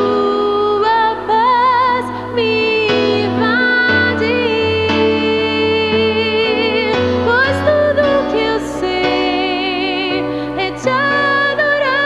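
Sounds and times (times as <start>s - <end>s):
soft band accompaniment: 0.0s - 12.0s
woman singing with vibrato: 0.0s - 12.0s.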